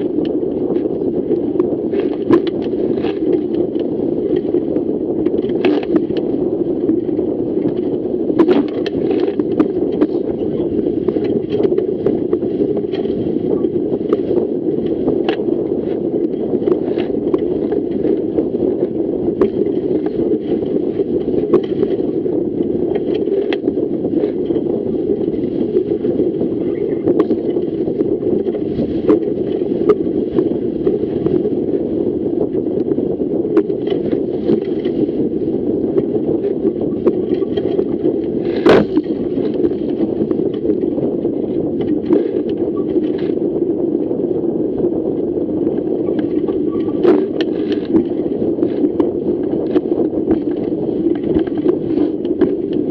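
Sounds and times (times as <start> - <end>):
rush of wind and water: 0.0 - 52.9.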